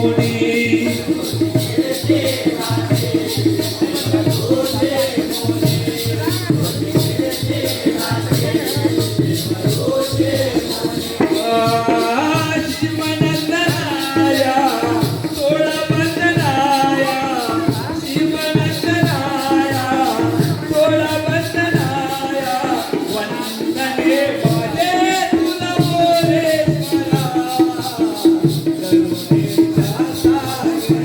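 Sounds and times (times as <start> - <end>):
jingling percussion: 0.0 - 31.0
man singing: 0.0 - 31.0
rhythmic drum beat: 0.0 - 31.0.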